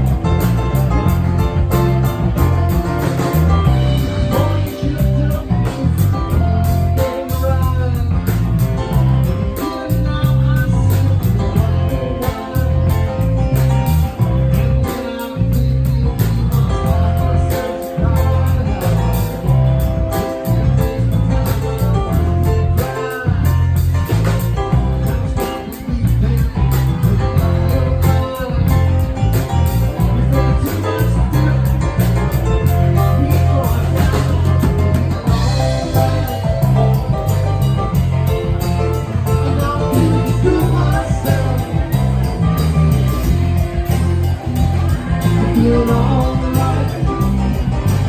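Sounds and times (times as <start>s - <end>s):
bass: 0.0s - 48.0s
drums with steady beat: 0.0s - 48.0s
guitar: 0.0s - 48.0s.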